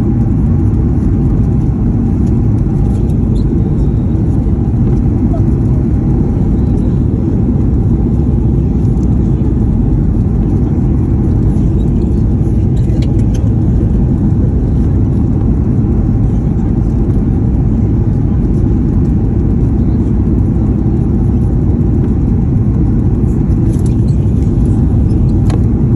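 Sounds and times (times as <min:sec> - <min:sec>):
airliner cabin rumble: 0:00.0 - 0:25.9.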